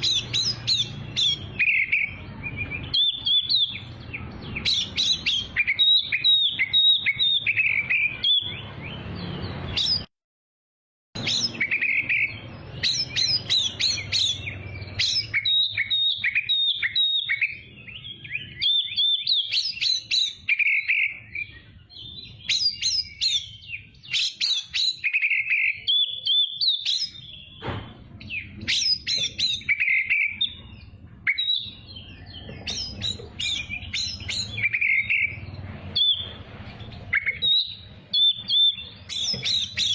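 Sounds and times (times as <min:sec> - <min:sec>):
bird singing whistles and trills: 0:00.0 - 0:10.1, 0:11.2 - 0:39.9.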